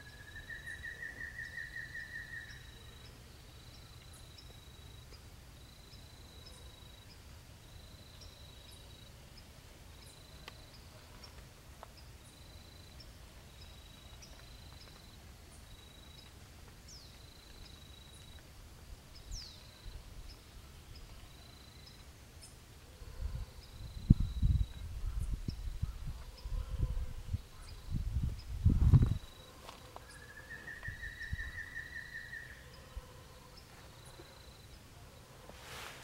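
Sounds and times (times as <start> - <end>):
insect chirping: 0.0 - 11.4, 12.0 - 26.7, 27.3 - 35.4.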